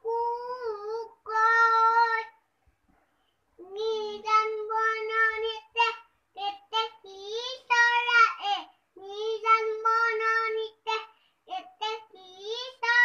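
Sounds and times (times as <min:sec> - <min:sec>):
toddler girl singing: 0:00.0 - 0:02.4, 0:03.6 - 0:13.0.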